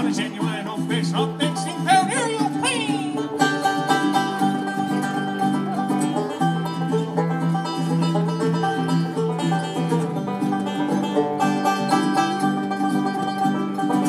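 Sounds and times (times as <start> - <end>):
bluegrass string band playing: 0.0 - 14.0
picked banjo: 0.0 - 14.0.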